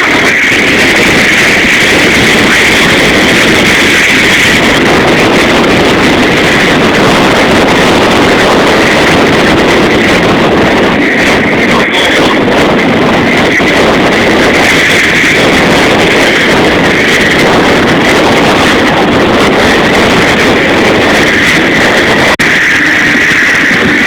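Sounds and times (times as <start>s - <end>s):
vehicle engine running: 0.0s - 24.0s
wind noise on microphone: 0.0s - 24.0s.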